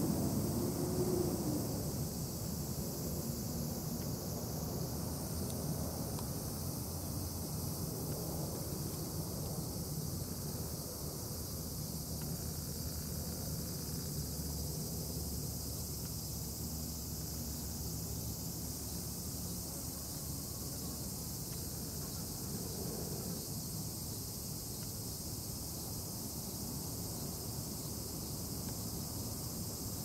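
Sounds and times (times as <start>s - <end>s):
continuous high hiss: 0.0s - 30.0s.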